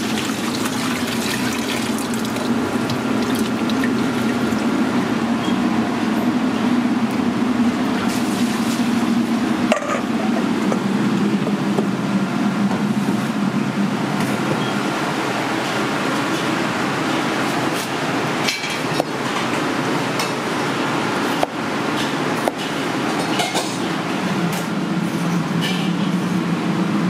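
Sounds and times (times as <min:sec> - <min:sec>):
rushing kitchen background noise: 0:00.0 - 0:27.0.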